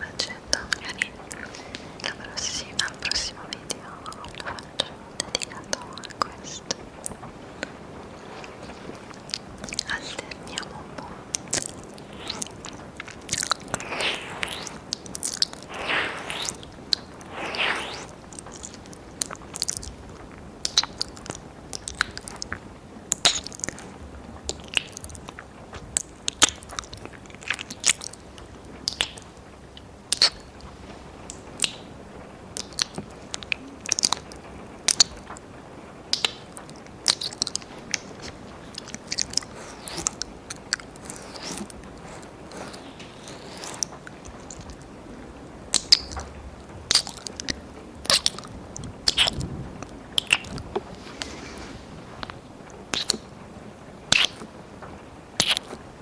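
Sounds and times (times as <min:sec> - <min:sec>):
wet mouth clicks and licking: 0:00.0 - 0:23.8, 0:24.5 - 0:25.4, 0:26.0 - 0:31.9, 0:32.5 - 0:35.3, 0:36.1 - 0:44.9, 0:45.7 - 0:46.3, 0:46.9 - 0:51.3, 0:52.2 - 0:53.2, 0:54.1 - 0:54.5, 0:55.4 - 0:55.8.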